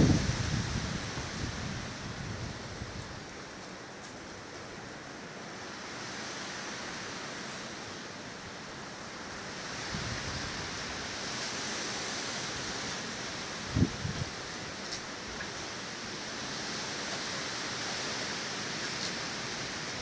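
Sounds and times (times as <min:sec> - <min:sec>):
gusting wind through trees: 0:00.0 - 0:20.0.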